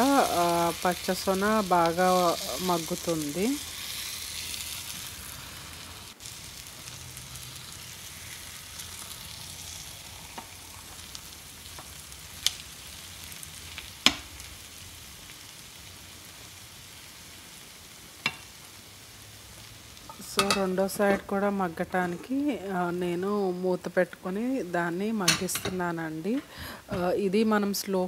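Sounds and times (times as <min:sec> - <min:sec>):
eggs sizzling in a pan: 0:00.0 - 0:27.8.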